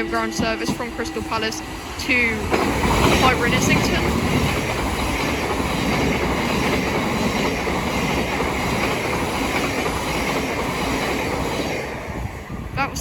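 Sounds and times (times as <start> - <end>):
train wheels rushing on rails: 0.0 - 13.0.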